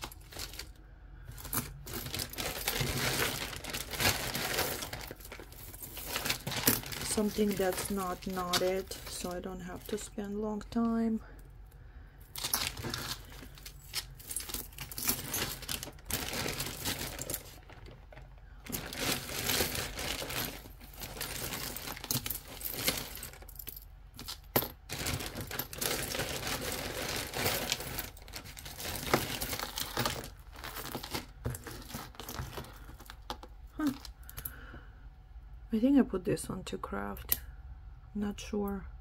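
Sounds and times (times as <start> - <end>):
jewelry jingling and clinking: 0.0 - 10.7, 12.2 - 34.5.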